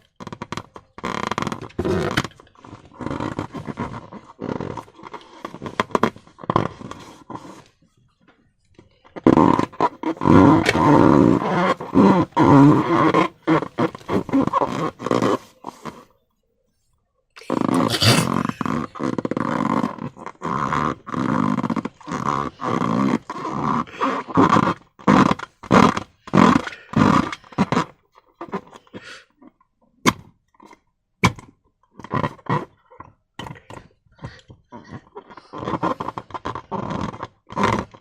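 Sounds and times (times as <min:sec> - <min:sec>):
rubbery squeaks and squelches: 0:00.1 - 0:16.2, 0:17.4 - 0:29.6, 0:31.9 - 0:38.0.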